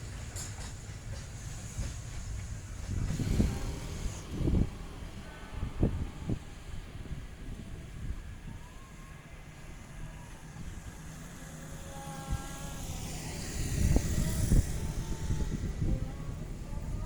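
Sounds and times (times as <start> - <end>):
train rumble and hiss: 0.0 - 17.0.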